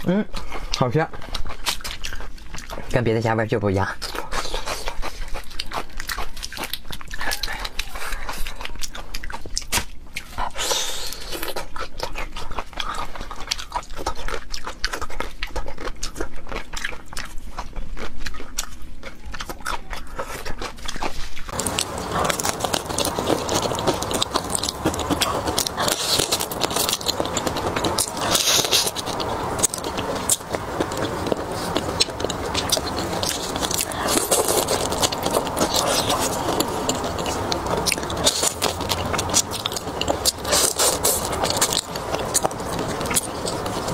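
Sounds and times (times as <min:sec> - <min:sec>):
biting and chewing shrimp: 0:00.0 - 0:03.2, 0:03.9 - 0:43.9.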